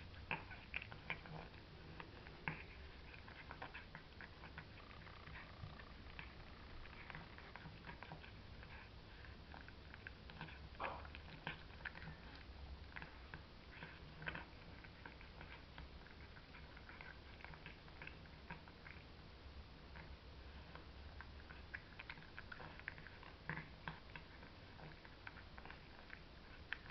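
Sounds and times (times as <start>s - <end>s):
cat eating wet food: 0.0s - 26.9s.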